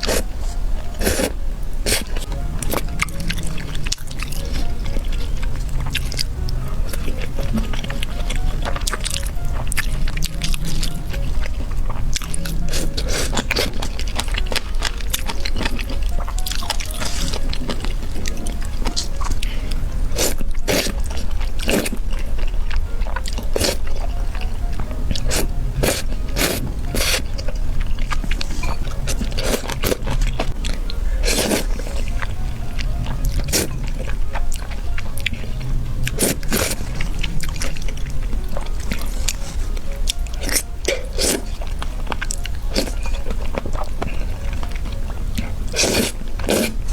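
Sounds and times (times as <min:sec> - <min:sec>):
background music: 0:00.0 - 0:46.9
chewing and biting food: 0:00.0 - 0:46.9.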